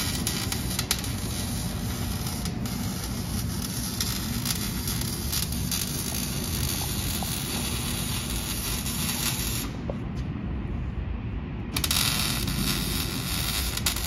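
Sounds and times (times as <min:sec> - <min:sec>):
welding arc crackling hiss: 0:00.0 - 0:09.8, 0:11.8 - 0:14.0.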